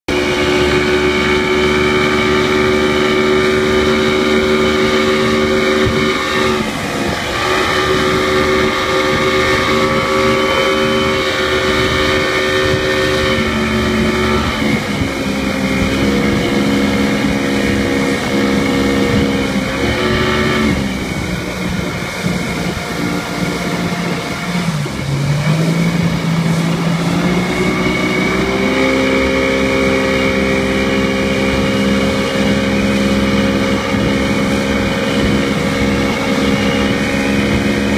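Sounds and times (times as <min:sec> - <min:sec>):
outboard motor running: 0:00.0 - 0:37.9
steady rushing noise: 0:00.1 - 0:37.9.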